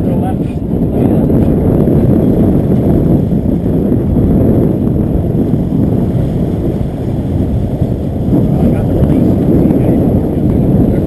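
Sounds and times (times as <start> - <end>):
outboard engines running: 0.0 - 11.0
water churning: 0.0 - 11.0
wind rumble on microphone: 0.0 - 11.0.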